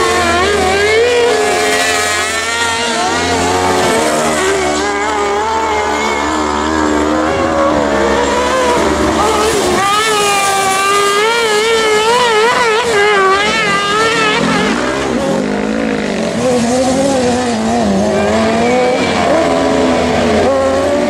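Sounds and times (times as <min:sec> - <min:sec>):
racing buggy engines revving: 0:00.0 - 0:21.0.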